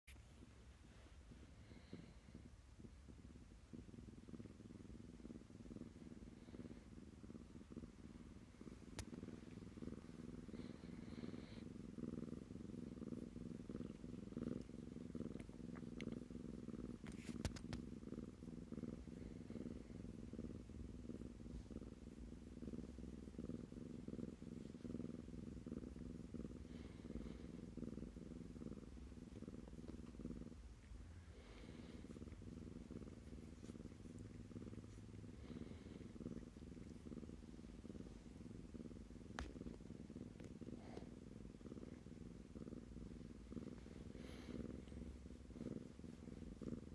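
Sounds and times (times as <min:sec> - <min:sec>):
kitten purring: 0:00.0 - 0:46.9.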